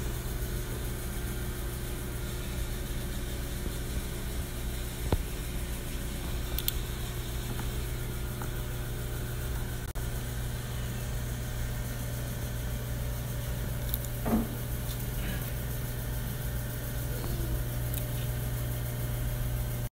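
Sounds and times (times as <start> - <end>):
low mechanical hum: 0.0 - 19.9.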